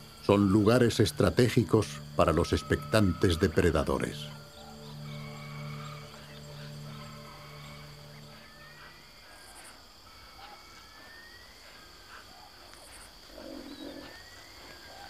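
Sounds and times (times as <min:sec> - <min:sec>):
bird chirps: 0:00.0 - 0:15.0
high insect drone: 0:00.0 - 0:15.0
low cooing call: 0:01.6 - 0:15.0.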